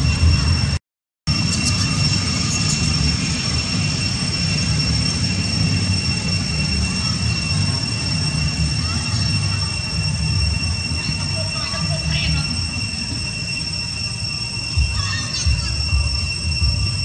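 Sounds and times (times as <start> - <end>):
fainter higher whine: 0.0 - 17.0
high-pitched whine: 0.0 - 17.0.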